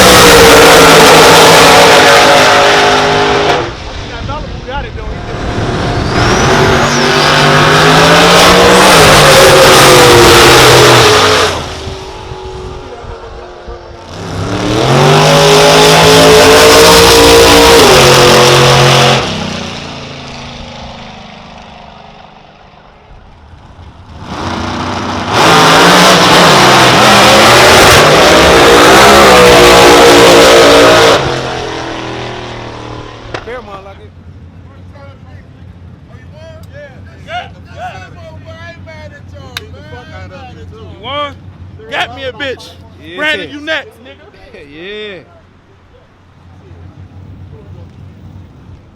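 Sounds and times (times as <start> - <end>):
drag racing cars at full throttle: 0.0 - 48.9.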